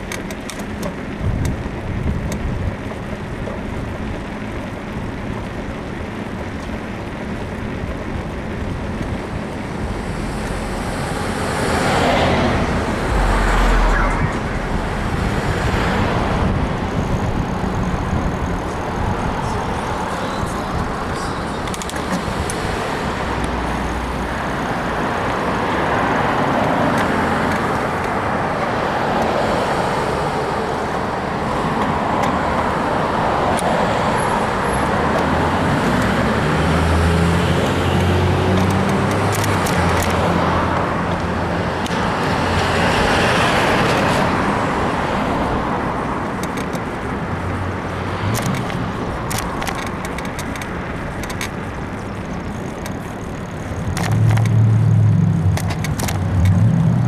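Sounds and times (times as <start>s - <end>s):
cars passing: 4.3s - 57.0s
heavy engine hum: 7.1s - 28.6s, 30.0s - 57.0s.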